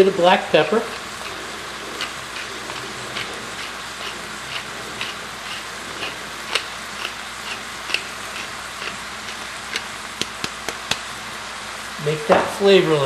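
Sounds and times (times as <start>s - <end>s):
mushrooms sizzling in a pan: 0.0s - 12.9s
pepper mill grinding: 0.5s - 11.0s.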